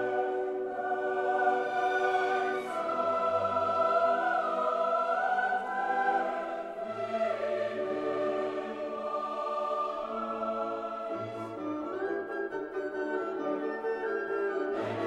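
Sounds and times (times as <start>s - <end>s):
choir singing held notes: 0.0s - 12.2s, 14.7s - 15.0s
orchestral backing: 0.0s - 15.0s.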